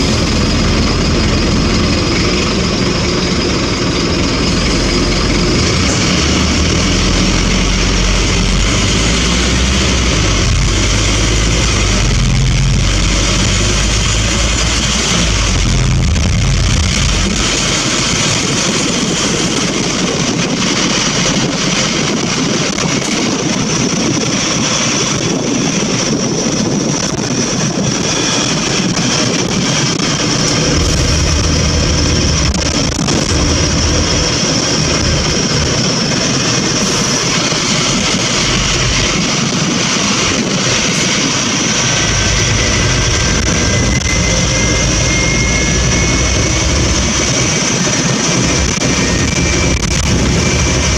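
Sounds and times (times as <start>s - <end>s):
bus engine rumble: 0.0s - 50.9s
high whine: 0.0s - 50.9s
road noise: 0.0s - 50.9s.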